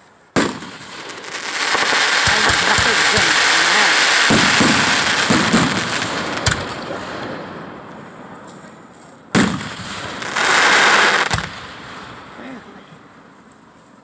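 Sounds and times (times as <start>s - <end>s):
fireworks crackling: 0.0s - 14.0s
fireworks bang: 0.4s - 13.1s.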